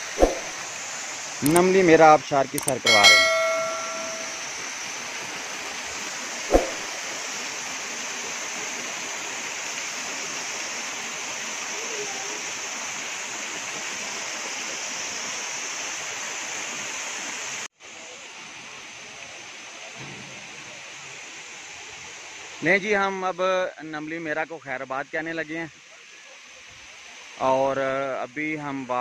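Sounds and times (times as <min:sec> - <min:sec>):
waterfall and stream rushing: 0:00.0 - 0:28.1.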